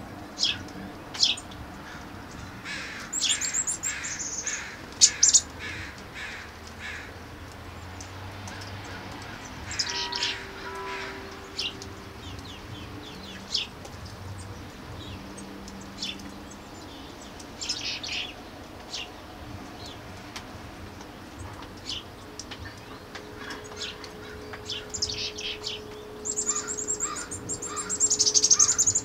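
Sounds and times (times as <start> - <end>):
birds chirping: 0.1 - 29.0.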